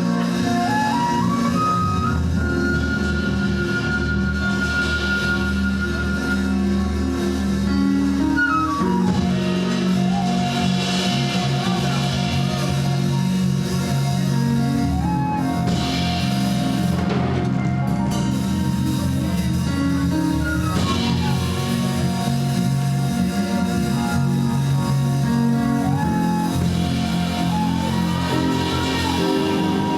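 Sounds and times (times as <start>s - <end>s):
live band guitar and drums: 0.0s - 29.9s.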